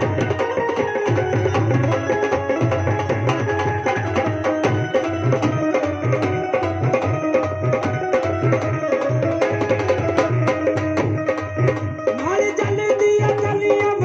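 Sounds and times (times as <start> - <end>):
fast drum rhythm: 0.0 - 14.0
held keyboard melody: 0.0 - 14.0.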